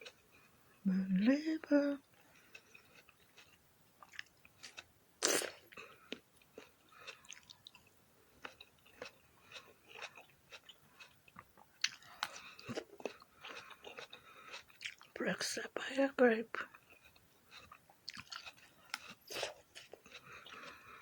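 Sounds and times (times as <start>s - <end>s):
wet crunchy chewing: 2.2s - 15.2s, 16.7s - 21.0s.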